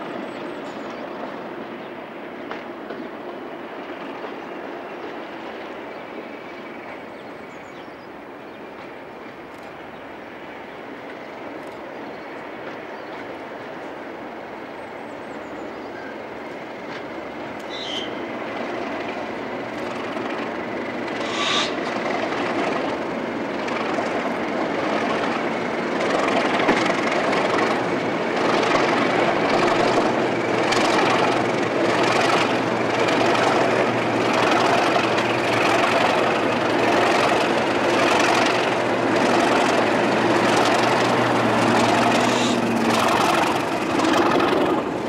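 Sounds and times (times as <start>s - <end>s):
diesel locomotive engines droning: 0.0s - 45.0s
train rumble: 0.0s - 45.0s.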